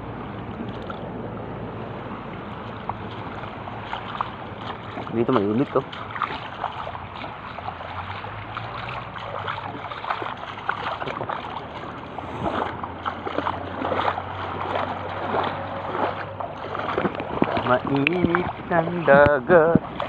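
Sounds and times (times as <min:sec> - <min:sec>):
steady low hum: 0:00.0 - 0:20.0
water sloshing and splashing: 0:00.0 - 0:20.0.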